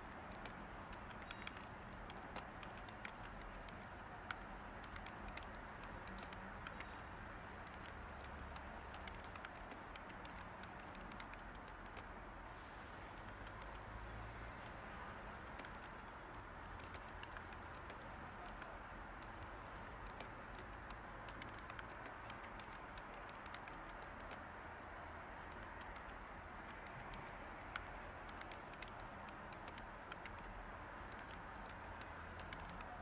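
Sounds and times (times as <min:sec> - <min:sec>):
white noise hiss: 0:00.0 - 0:33.0
computer keyboard typing: 0:00.1 - 0:12.1, 0:13.1 - 0:13.9, 0:14.6 - 0:24.5, 0:25.3 - 0:33.0.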